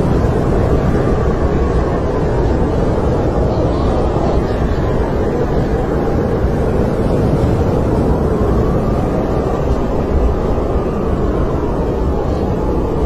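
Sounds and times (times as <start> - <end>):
faint wind whistle: 0.0 - 13.0
snowstorm wind blowing: 0.0 - 13.0.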